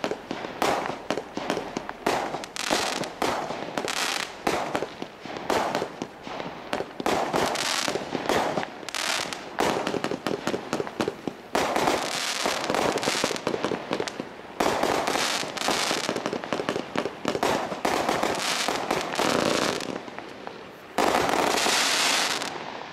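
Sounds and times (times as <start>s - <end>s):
fireworks launching and bursting: 0.0s - 22.9s.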